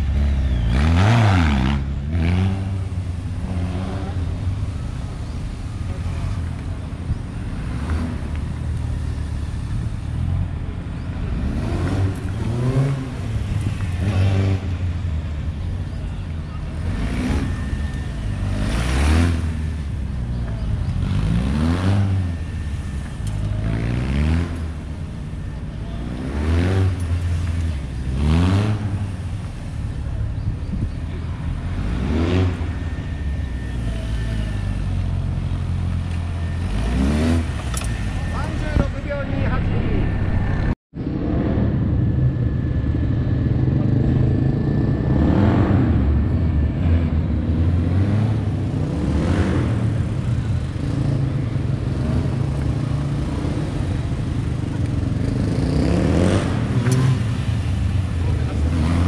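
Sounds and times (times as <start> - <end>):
motorcycle engine revving: 0.0 - 15.9, 16.5 - 59.0.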